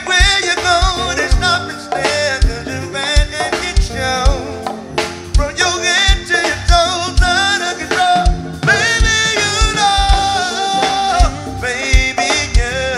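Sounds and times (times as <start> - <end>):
live band with drums: 0.0 - 12.9
person singing long notes: 0.0 - 12.9.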